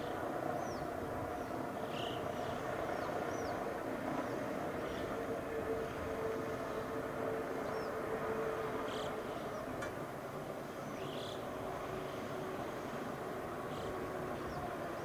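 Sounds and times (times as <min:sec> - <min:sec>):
railcar drive hum: 0:00.0 - 0:15.0.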